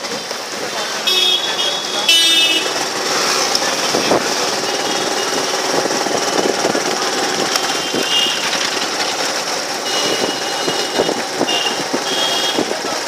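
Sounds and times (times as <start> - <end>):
vehicle engine rattling: 0.0 - 13.0.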